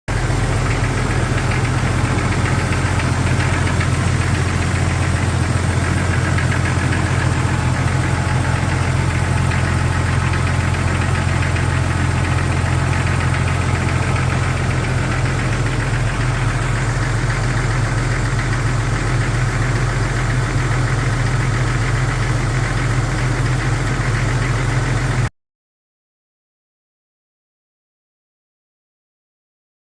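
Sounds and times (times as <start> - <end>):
car engine idling with rapid knock: 0.1 - 25.3.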